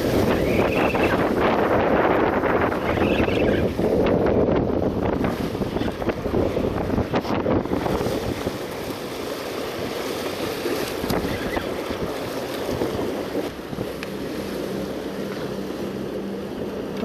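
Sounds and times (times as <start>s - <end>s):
wind blowing on microphone: 0.0s - 9.0s, 9.6s - 17.0s
sea washing against rocks: 0.0s - 17.0s.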